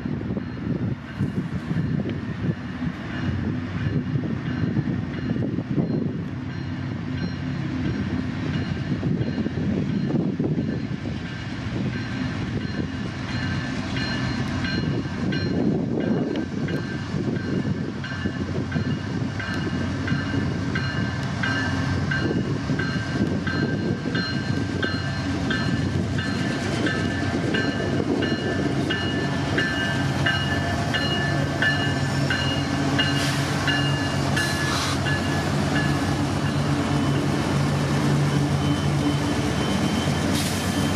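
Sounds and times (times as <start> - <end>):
crossing bell ringing: 0.0 - 2.2, 3.1 - 40.9
diesel locomotive rumble: 0.0 - 40.9.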